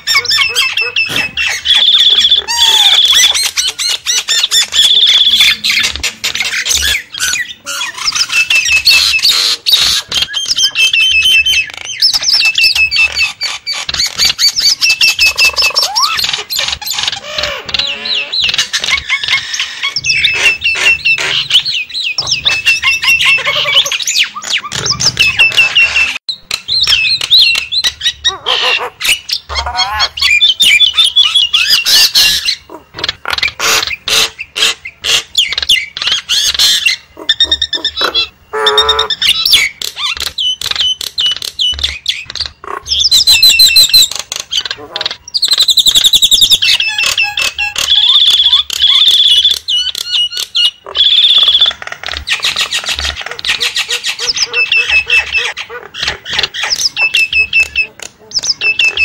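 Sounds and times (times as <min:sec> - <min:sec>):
sharp clicking bird notes: 0:00.0 - 0:28.2, 0:30.2 - 0:59.0
mynas chattering and whistling: 0:00.0 - 0:59.0.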